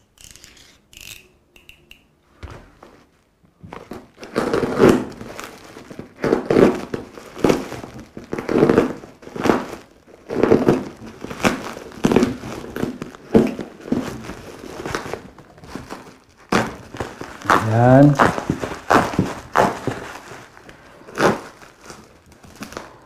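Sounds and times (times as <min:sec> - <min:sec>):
bubble wrap crinkling: 0:02.8 - 0:23.0
utility knife cutting bubble wrap: 0:03.9 - 0:23.0.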